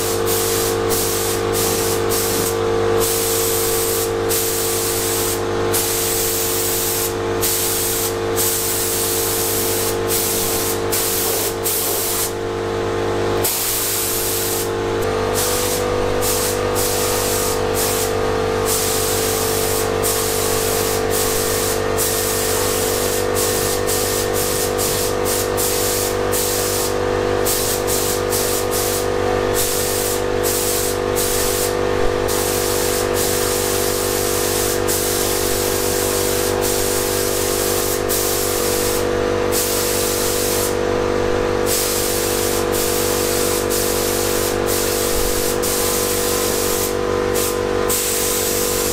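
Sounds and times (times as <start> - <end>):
spray gun hissing: 0.0 - 12.4, 13.4 - 40.8, 41.6 - 48.9
steady machine hum: 0.0 - 48.9.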